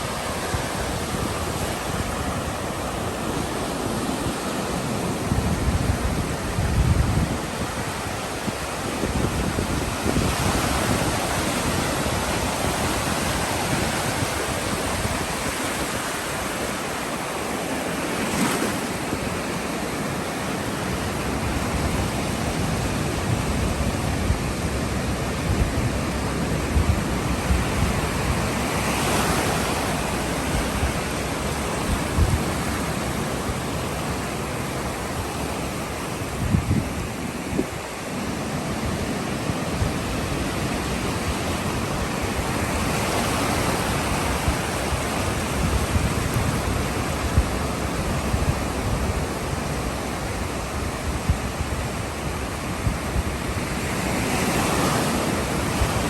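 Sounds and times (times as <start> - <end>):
ocean waves on shore: 0.0 - 56.0.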